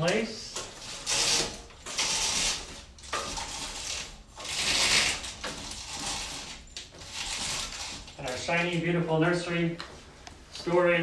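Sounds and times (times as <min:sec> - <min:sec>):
window blinds cord rattling: 0:00.0 - 0:11.0.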